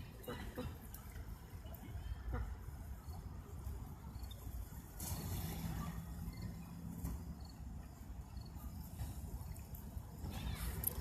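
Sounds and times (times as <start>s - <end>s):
steady low hum and hiss: 0.0s - 11.0s.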